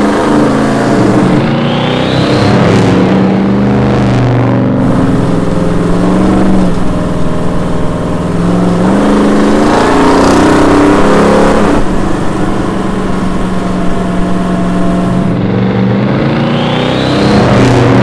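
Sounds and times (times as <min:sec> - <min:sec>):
car engine through loud exhaust: 0:00.0 - 0:18.0.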